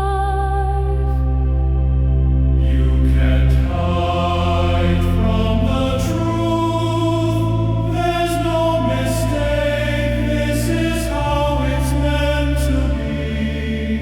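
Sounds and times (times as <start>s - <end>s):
choir singing wordless chords: 0.0s - 14.0s
low bass: 0.0s - 14.0s.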